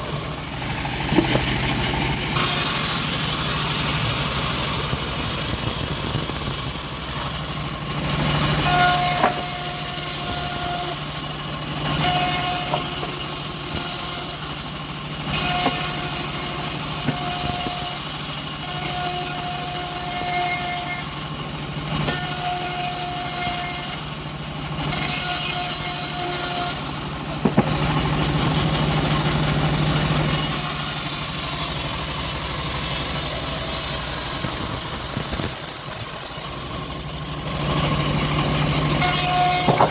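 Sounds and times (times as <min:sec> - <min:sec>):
engine hum: 0:00.0 - 0:18.8, 0:23.6 - 0:39.9
bandsaw cutting wood: 0:00.0 - 0:39.9.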